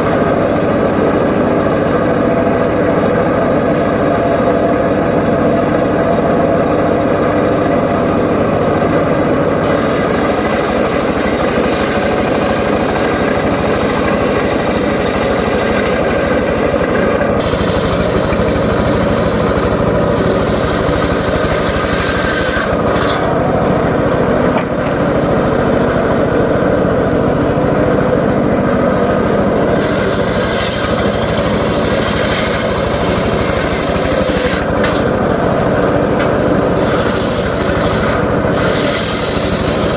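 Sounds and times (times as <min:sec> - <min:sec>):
circular saw cutting timber: 0:00.0 - 0:39.9.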